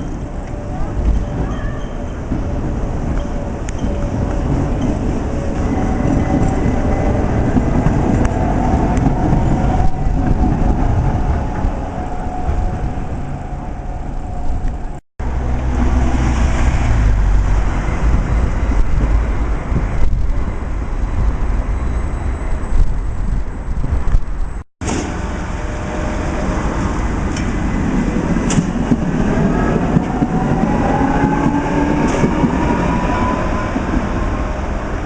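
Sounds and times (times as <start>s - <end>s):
tram rumbling on track: 0.0s - 35.0s.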